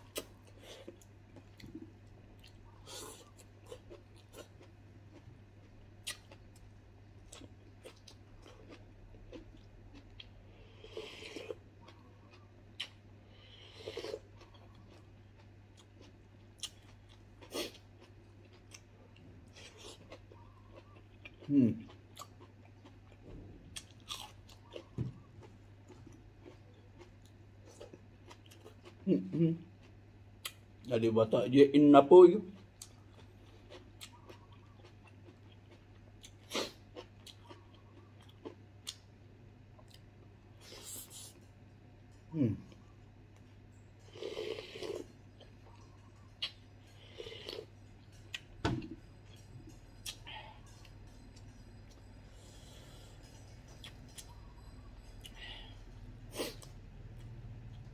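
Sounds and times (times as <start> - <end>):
chewing and mouth sounds: 0.0 - 30.7, 32.5 - 57.9
steady low hum: 0.0 - 57.9.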